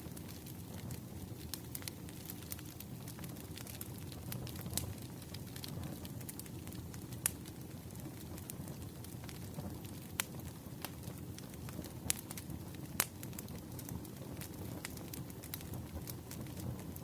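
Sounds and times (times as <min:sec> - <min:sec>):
fire popping and snapping: 0:00.0 - 0:17.0
wood fire crackling: 0:00.0 - 0:17.0.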